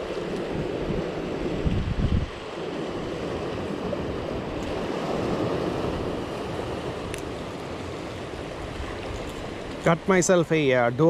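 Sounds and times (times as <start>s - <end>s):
wind rumble on microphone: 0.0s - 10.7s
surf washing over rocks: 0.0s - 11.0s.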